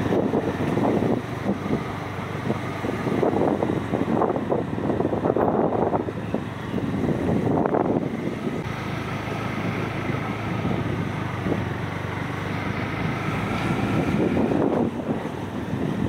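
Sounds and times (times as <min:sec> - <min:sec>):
storm wind gusting on microphone: 0:00.0 - 0:08.7, 0:09.4 - 0:16.0.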